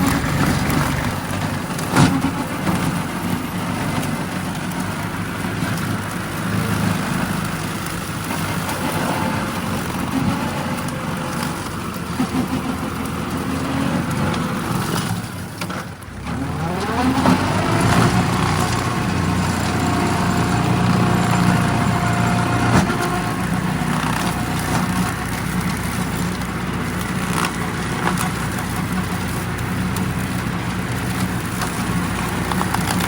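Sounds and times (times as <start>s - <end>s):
machine engine revving: 0.0s - 33.0s.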